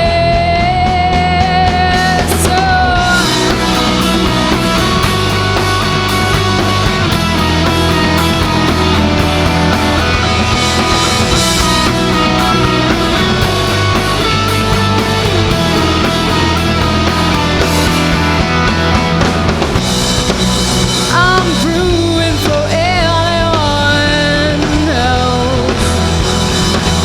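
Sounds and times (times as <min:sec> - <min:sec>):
bass guitar: 0:00.0 - 0:27.0
distorted electric guitars: 0:00.0 - 0:27.0
drum kit playing: 0:00.0 - 0:27.0.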